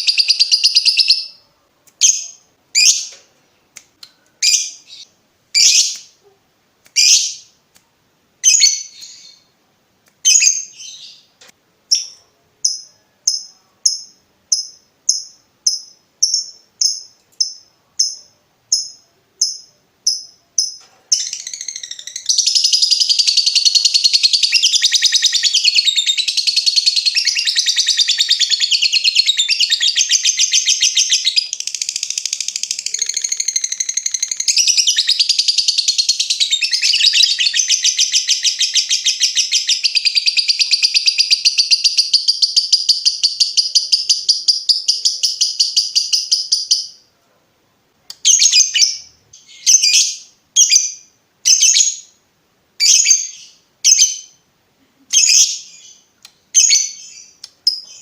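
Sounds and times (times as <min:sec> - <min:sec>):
lovebird chirping and trilling: 0:00.0 - 0:01.4, 0:02.0 - 0:03.2, 0:04.4 - 0:06.1, 0:07.0 - 0:07.5, 0:08.4 - 0:09.5, 0:10.2 - 0:11.3, 0:11.9 - 0:47.0, 0:48.2 - 0:52.1, 0:52.8 - 0:54.4, 0:55.1 - 0:58.0.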